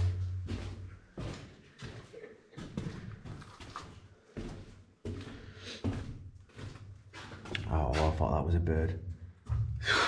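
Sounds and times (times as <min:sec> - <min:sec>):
footsteps on concrete floor: 0:00.0 - 0:08.5, 0:09.1 - 0:10.0.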